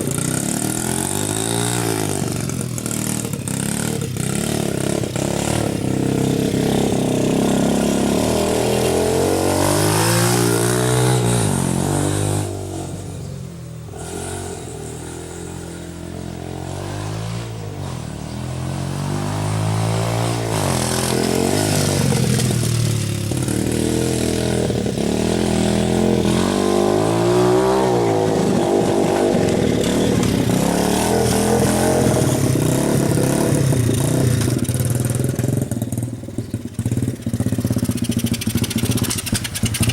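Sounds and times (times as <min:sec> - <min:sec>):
dirt bike engine revving: 0:00.0 - 0:13.2, 0:13.8 - 0:39.9.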